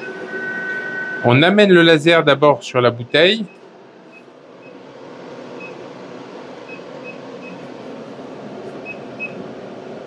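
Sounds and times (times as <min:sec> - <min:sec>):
laser engraver fans humming: 0:00.0 - 0:10.0.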